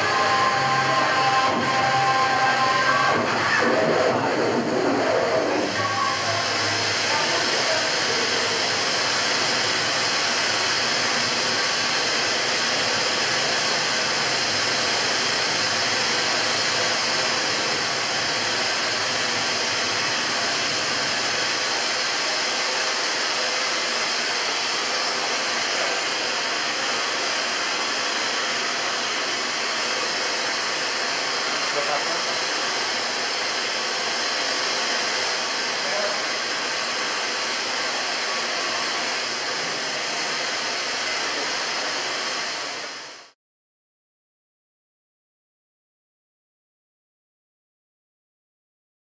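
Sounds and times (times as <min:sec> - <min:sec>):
hiss-like electronic noise drone: 0:00.0 - 0:43.3.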